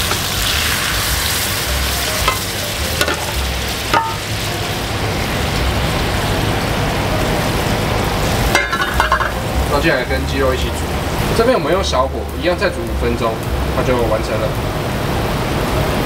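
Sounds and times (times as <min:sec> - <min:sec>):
sauce sizzling in a skillet: 0:00.0 - 0:13.8.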